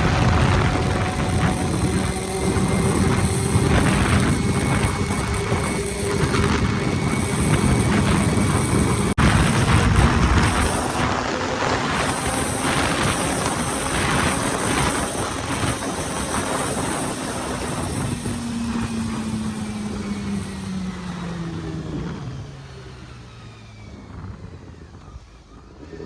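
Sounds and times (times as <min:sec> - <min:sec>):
motorcycle engine: 0:00.0 - 0:25.4
wind rush: 0:00.0 - 0:26.0.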